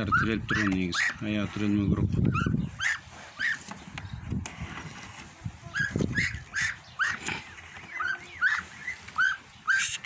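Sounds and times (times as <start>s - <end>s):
young geese peeping: 0.0s - 10.0s.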